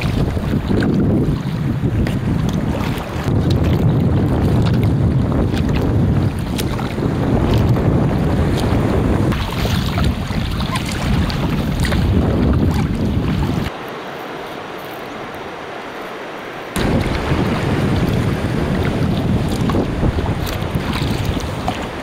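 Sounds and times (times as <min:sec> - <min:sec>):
wind buffeting microphone: 0:00.0 - 0:13.8, 0:16.7 - 0:22.0
water splashing and lapping: 0:00.0 - 0:22.0.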